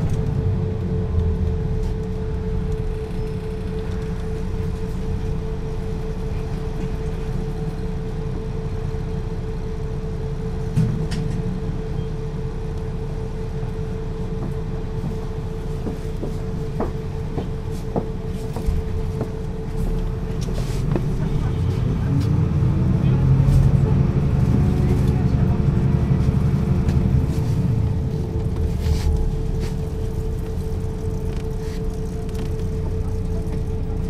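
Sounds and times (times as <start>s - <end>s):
bus diesel engine rumbling: 0.0s - 34.0s.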